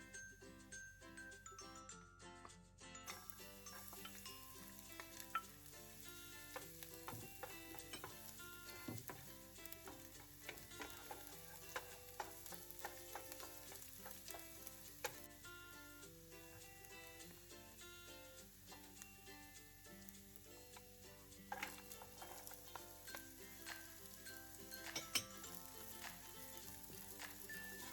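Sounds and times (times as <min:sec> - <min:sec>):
background music: 0:00.0 - 0:27.9
utensil clicking and scraping pan: 0:03.1 - 0:17.8, 0:18.7 - 0:27.9
food sizzling in a frying pan: 0:03.1 - 0:27.9.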